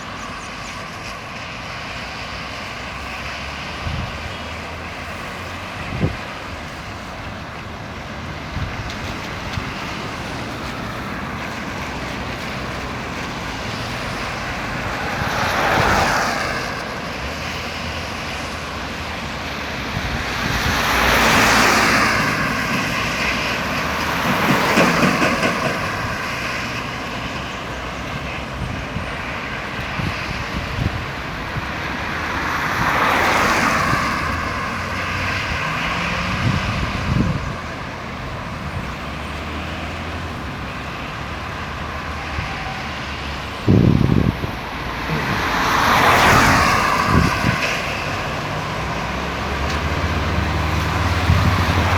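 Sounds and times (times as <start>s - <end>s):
traffic rumble: 0.0s - 51.9s
vehicles passing: 0.0s - 51.9s.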